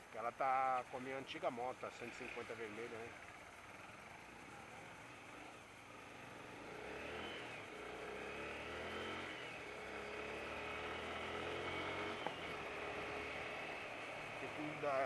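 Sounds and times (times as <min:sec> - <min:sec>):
motorcycle engine accelerating: 0:02.0 - 0:15.0.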